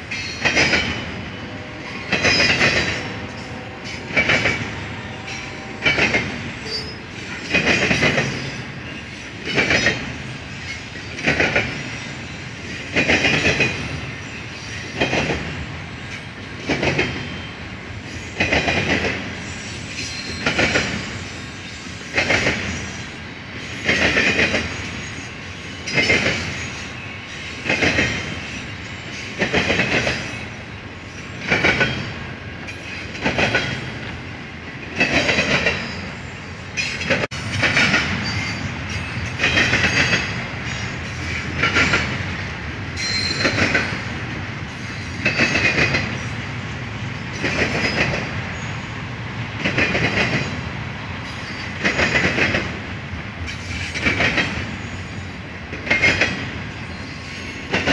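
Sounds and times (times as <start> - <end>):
train wheels clattering: 0.0 - 34.2, 34.8 - 46.4, 47.2 - 48.7, 49.5 - 57.9
train rolling rumble: 0.0 - 57.9.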